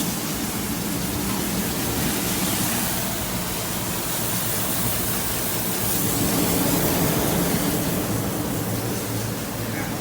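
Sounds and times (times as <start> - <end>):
water jet hissing: 0.0 - 10.0.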